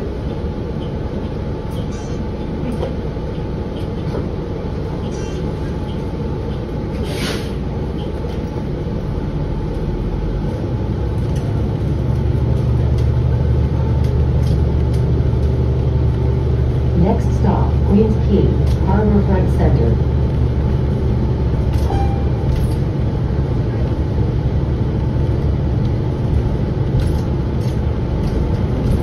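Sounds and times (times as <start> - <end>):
bus engine running: 0.0 - 29.0.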